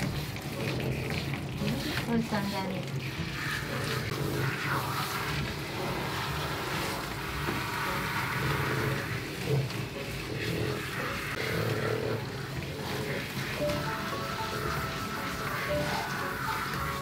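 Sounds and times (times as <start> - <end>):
shower head spraying water: 0.0 - 17.0.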